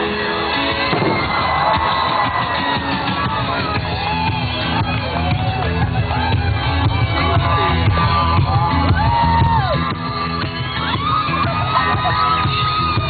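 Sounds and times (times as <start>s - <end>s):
crowd shouting and whooping: 0.0s - 13.0s
loud music with low beat: 0.0s - 13.0s.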